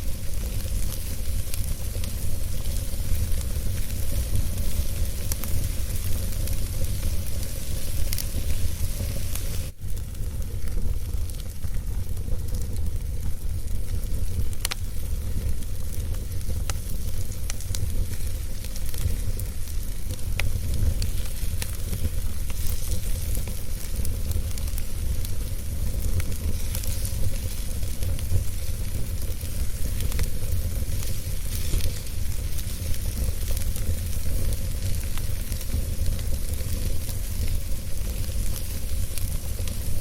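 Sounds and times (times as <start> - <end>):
fire crackling and popping: 0.0 - 40.0
wood fire rumble and hiss: 0.0 - 40.0.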